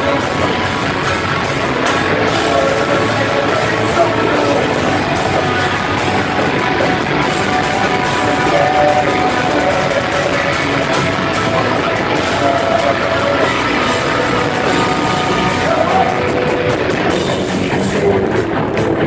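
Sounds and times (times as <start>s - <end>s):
electric guitars: 0.0s - 19.0s
person singing: 0.0s - 19.0s.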